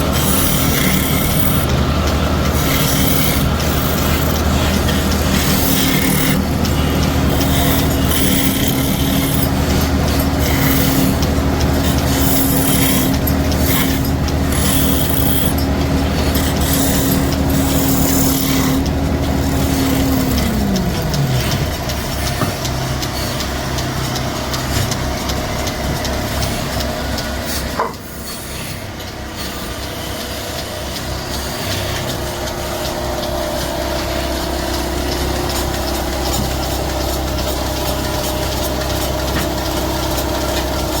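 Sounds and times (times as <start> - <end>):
woodworking machine motor running: 0.0 - 41.0.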